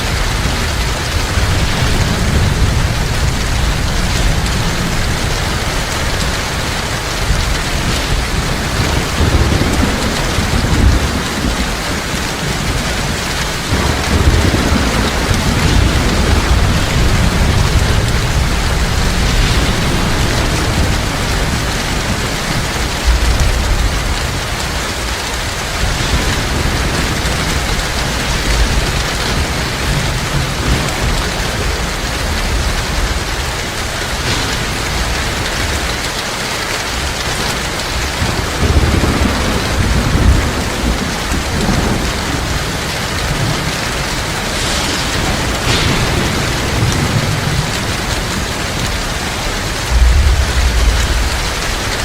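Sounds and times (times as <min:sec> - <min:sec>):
heavy rain falling: 0:00.0 - 0:52.0
thunder rolling: 0:00.0 - 0:52.0.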